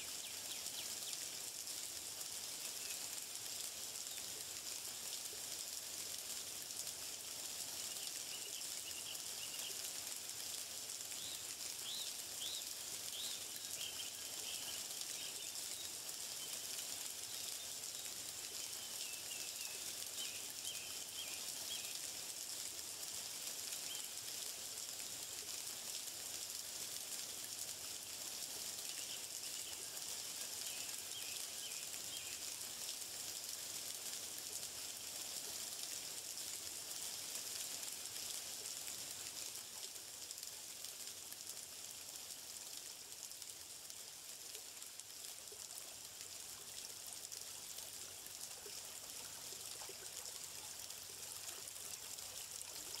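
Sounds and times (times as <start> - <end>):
outdoor ambience hiss: 0.0 - 53.0.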